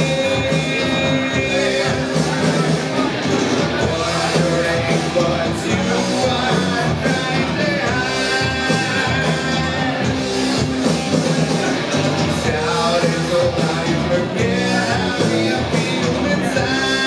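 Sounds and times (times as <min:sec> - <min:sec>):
man singing: 0:00.0 - 0:10.8, 0:11.5 - 0:17.0
bass guitar: 0:00.0 - 0:17.0
distorted electric guitar: 0:00.0 - 0:17.0
drum kit: 0:00.0 - 0:17.0.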